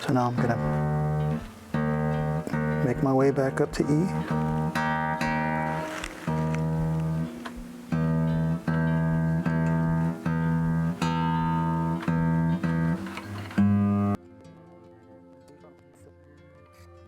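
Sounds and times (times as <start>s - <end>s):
acoustic guitar string plucked: 0.0s - 14.2s.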